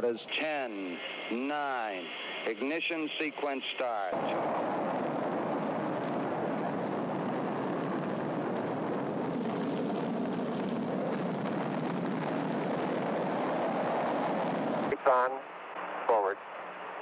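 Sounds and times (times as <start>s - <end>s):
rocket engines rumbling: 0.0s - 17.0s.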